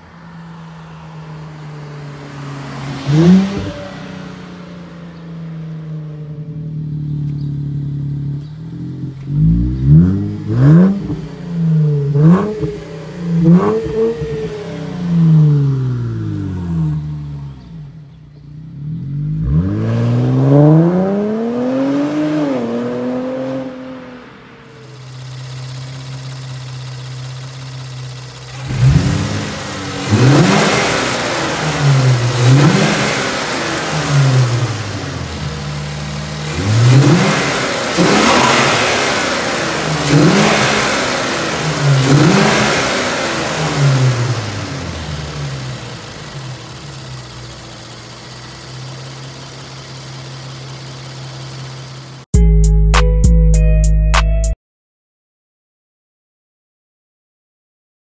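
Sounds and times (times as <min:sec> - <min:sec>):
car engine revving: 0:00.0 - 0:52.3.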